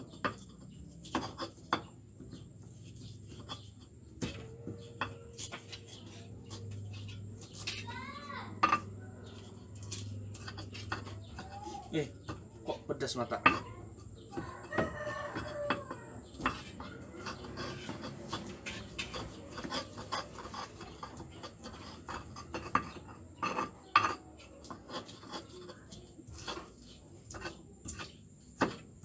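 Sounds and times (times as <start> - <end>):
pestle grinding in mortar: 0.0 - 29.0.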